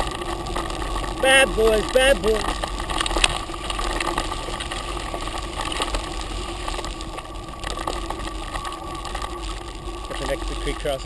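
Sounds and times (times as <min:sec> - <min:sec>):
bike rattles and clicks: 0:00.0 - 0:11.0
tyres crunching on dirt: 0:00.0 - 0:11.0.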